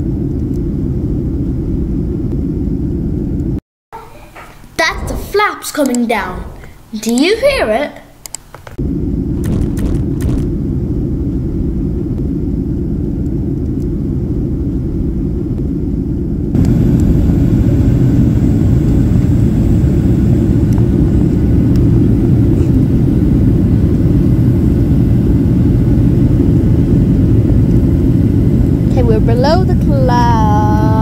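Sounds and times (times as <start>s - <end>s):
jet cabin engine rumble: 0.0s - 3.6s, 8.7s - 31.0s.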